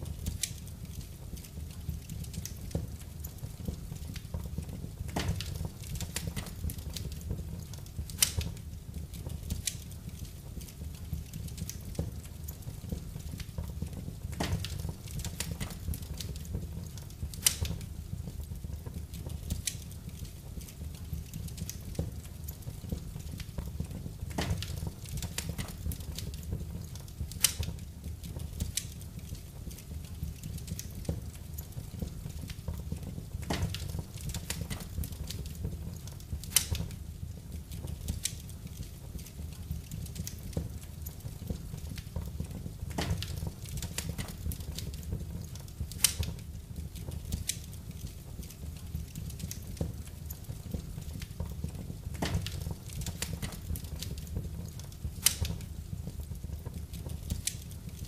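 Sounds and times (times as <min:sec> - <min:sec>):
fire crackles and pops: 0:00.0 - 0:58.0
low rumble of flames: 0:00.0 - 0:58.0.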